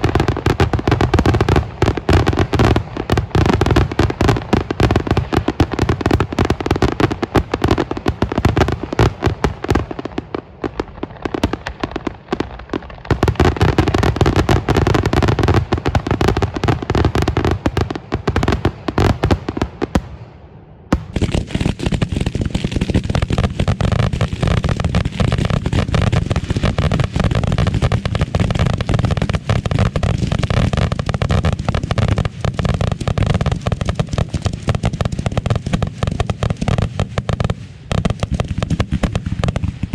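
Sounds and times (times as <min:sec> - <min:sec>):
firework shells booming: 0:00.0 - 0:39.9.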